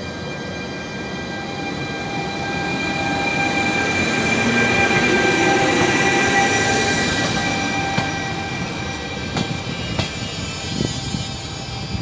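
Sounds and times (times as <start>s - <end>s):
electric locomotive whining: 0.0s - 12.0s.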